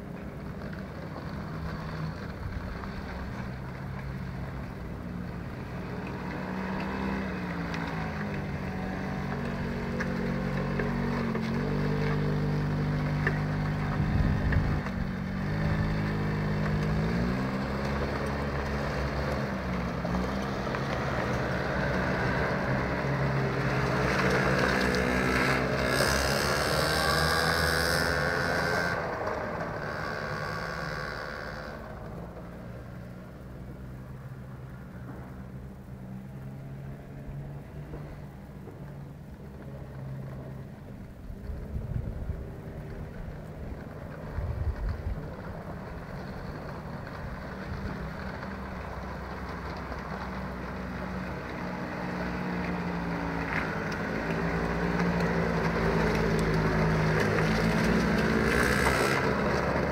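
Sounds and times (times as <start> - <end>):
quad bike engines running: 0.0 - 59.9.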